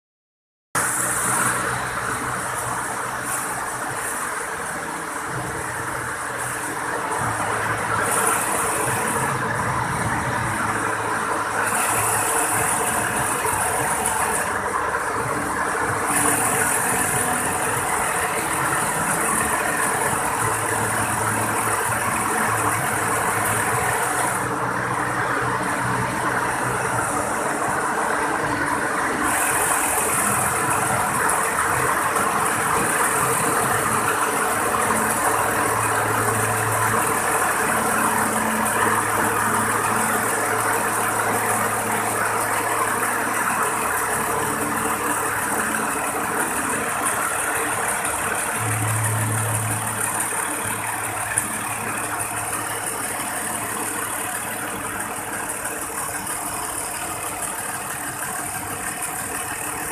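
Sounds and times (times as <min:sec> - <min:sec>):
sewing machine humming: 0:00.8 - 0:59.9.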